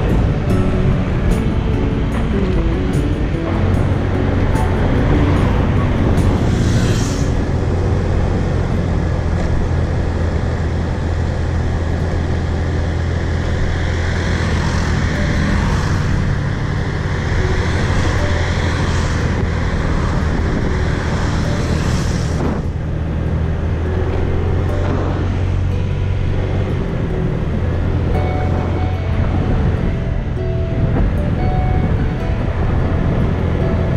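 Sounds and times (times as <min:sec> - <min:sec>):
motorbike engine drone: 0:00.0 - 0:33.9
wind and road noise rushing: 0:00.0 - 0:33.9.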